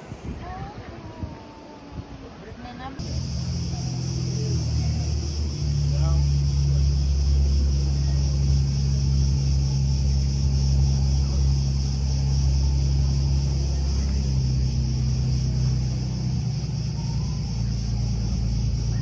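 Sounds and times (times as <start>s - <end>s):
constant high buzz: 0.0s - 19.0s
low engine hum: 0.0s - 19.0s.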